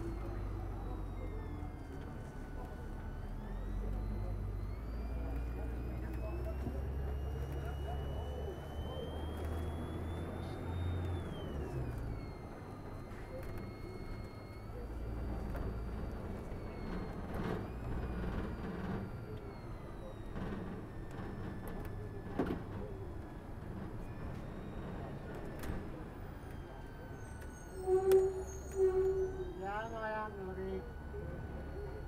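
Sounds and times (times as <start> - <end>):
bus engine rumble: 0.0 - 32.0.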